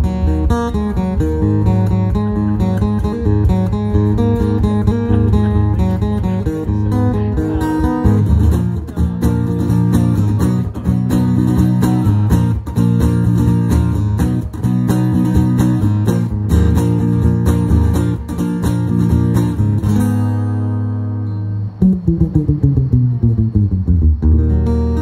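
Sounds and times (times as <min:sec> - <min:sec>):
acoustic guitar strumming and picking: 0:00.0 - 0:25.0.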